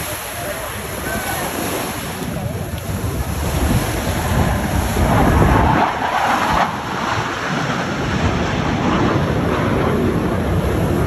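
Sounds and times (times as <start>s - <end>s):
jet engines flying past: 0.0s - 11.0s
surf: 0.0s - 11.0s
wind on microphone: 0.0s - 11.0s.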